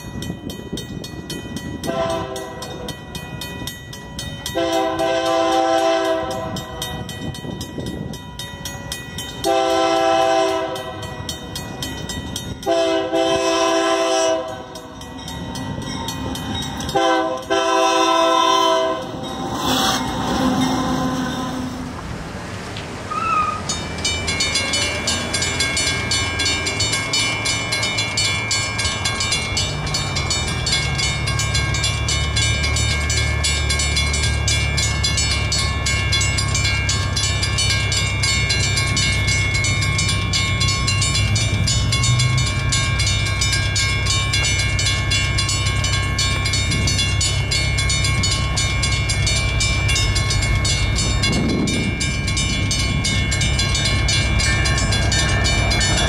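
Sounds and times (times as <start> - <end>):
railroad crossing bell ringing: 0.0 - 22.0, 23.1 - 56.0.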